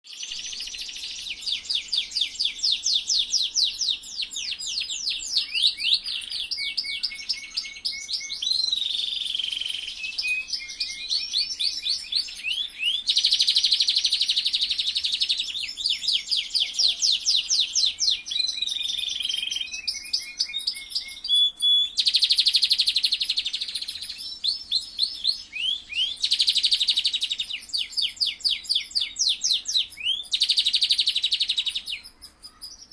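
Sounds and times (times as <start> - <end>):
canary singing: 0.0 - 32.9.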